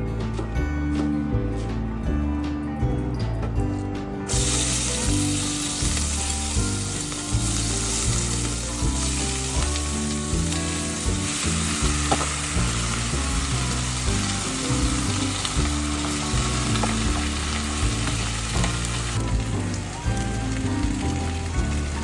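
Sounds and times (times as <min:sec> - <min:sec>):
background music: 0:00.0 - 0:22.0
food sizzling in a pan: 0:04.3 - 0:22.0.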